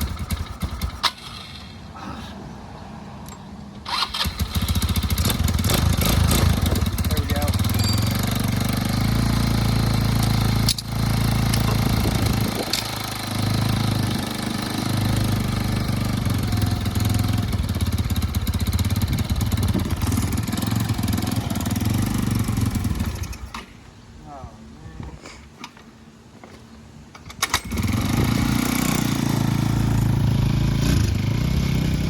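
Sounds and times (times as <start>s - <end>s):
quad engine running: 0.0s - 1.8s, 3.9s - 23.5s, 27.6s - 32.0s.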